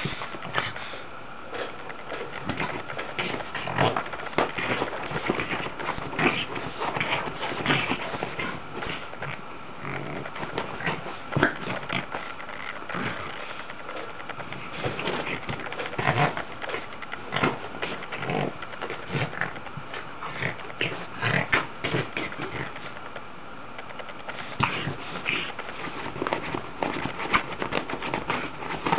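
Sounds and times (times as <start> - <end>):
dog grunting and snuffling: 0.0 - 23.2, 23.8 - 28.9
dog scuffling in bed: 1.6 - 23.0, 24.1 - 28.9.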